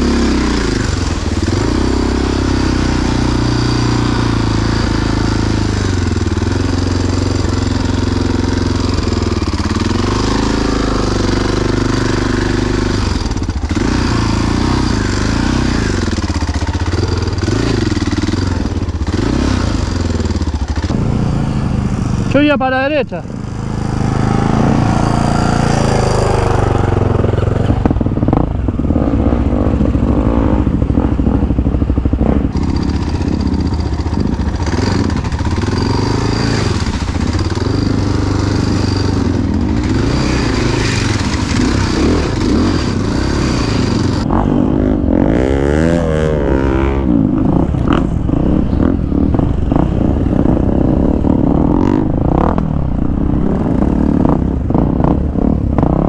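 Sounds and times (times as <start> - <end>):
off-road motorcycle engine revving: 0.0 - 56.0.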